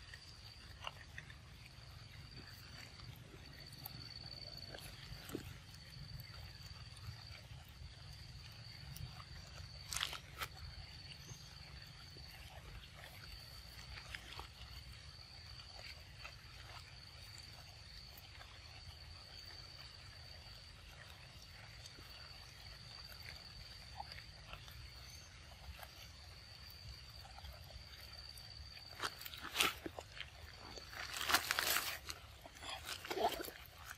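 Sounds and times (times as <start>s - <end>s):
monkey chewing: 0.0s - 17.4s, 23.2s - 33.9s
high-pitched insect whine: 1.7s - 20.8s, 21.5s - 33.9s.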